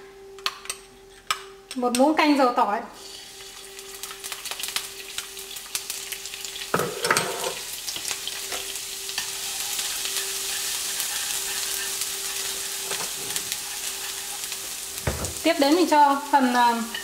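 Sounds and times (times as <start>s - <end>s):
garlic sizzling in a frying pan: 3.0s - 17.0s.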